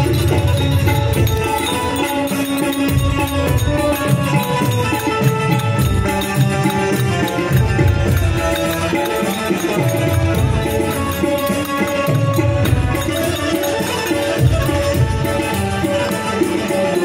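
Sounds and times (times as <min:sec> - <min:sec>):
banjo: 0:00.0 - 0:17.0
drum beat: 0:00.0 - 0:17.0
harmonium: 0:00.0 - 0:17.0.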